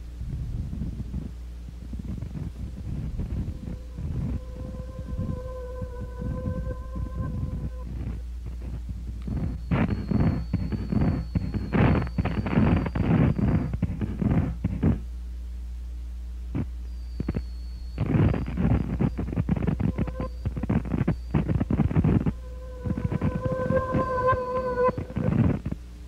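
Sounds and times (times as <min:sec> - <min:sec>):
low electrical hum: 0:00.0 - 0:26.0
bursts of distorted noise: 0:01.8 - 0:15.0, 0:16.5 - 0:26.0.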